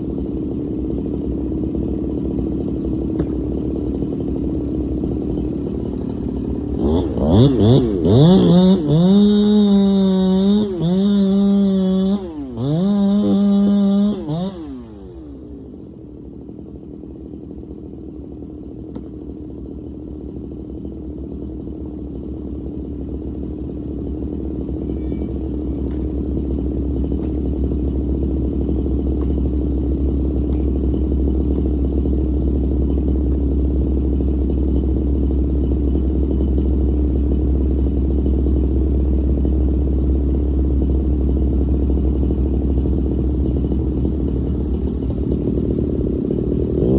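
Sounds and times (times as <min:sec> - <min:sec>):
diesel engine clattering: 0:00.0 - 0:15.7, 0:23.0 - 0:46.9
chainsaw revving: 0:00.0 - 0:16.9, 0:21.9 - 0:46.9.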